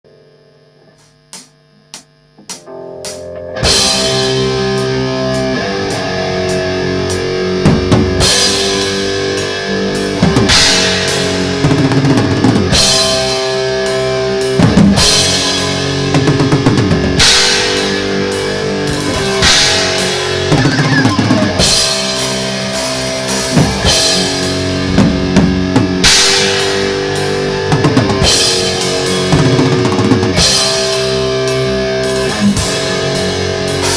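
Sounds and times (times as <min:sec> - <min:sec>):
distorted electric guitars: 0:00.1 - 0:33.9
bass guitar: 0:01.0 - 0:33.9
pounding drum kit: 0:01.0 - 0:33.9
cymbal crashes: 0:03.1 - 0:07.3, 0:08.2 - 0:33.9.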